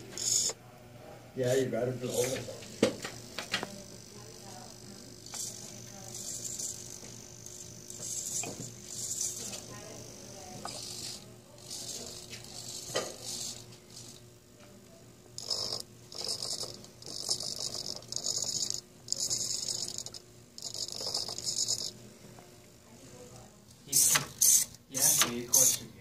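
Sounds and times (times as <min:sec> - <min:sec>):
servo motors whirring: 0:00.0 - 0:00.6, 0:02.0 - 0:22.0, 0:23.2 - 0:25.9.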